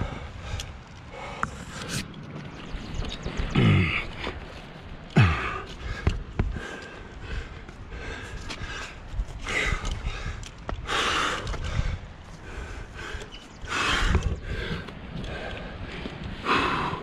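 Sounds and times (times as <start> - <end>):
person breathing hard: 0.0 - 2.0, 5.2 - 17.0.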